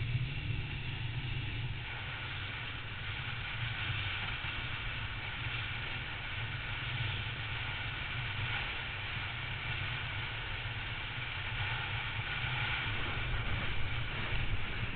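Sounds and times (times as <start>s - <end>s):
rushing wind and road noise: 0.0s - 14.9s.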